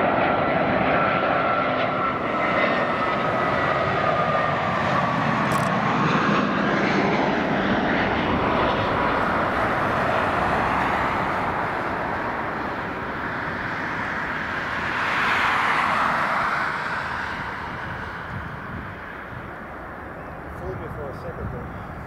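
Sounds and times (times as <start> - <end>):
jet airliner landing: 0.0 - 22.0.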